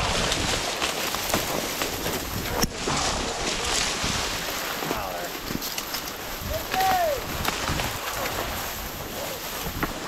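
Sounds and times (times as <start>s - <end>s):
dry grass rustling against clothing: 0.0s - 10.0s.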